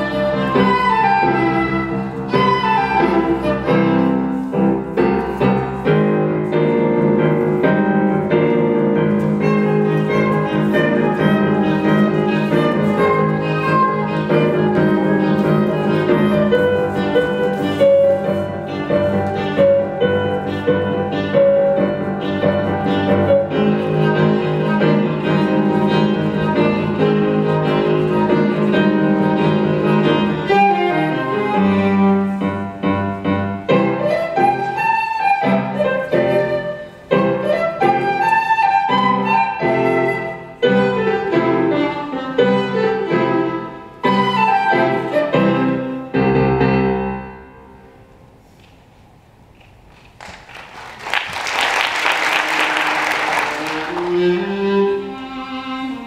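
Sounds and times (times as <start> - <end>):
flute: 0.0 - 8.8, 9.4 - 32.8, 33.6 - 47.2
viola: 0.0 - 47.4, 51.9 - 56.0
piano: 0.0 - 56.0.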